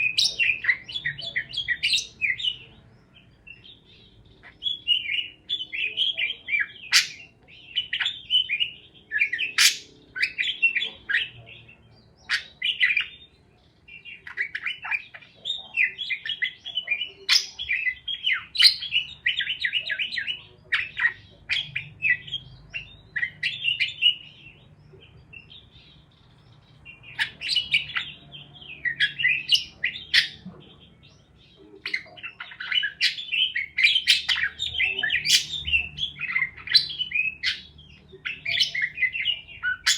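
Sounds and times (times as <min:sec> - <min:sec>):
parakeets chirping: 0:00.0 - 0:39.9.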